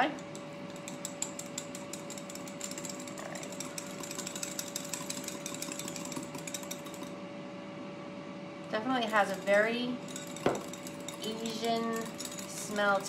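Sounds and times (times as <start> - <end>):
faint steady hum: 0.0 - 13.0
whisk clicking in glass bowl: 0.2 - 7.2, 9.1 - 13.0.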